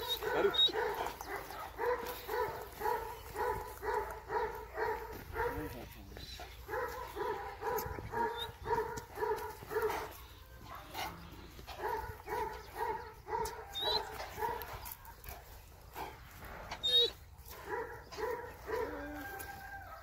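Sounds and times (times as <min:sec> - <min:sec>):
dog barking: 0:00.0 - 0:05.8, 0:06.6 - 0:15.3, 0:16.9 - 0:20.0.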